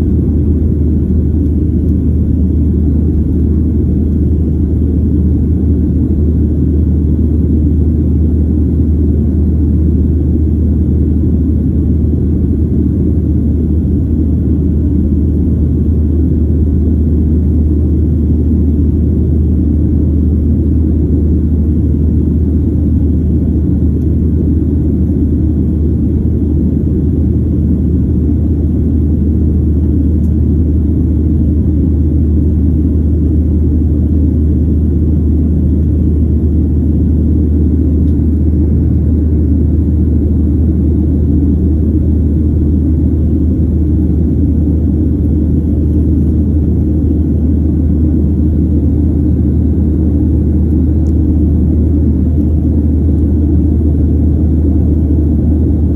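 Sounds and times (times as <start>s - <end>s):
jet engines rumbling in cabin: 0.0s - 55.9s.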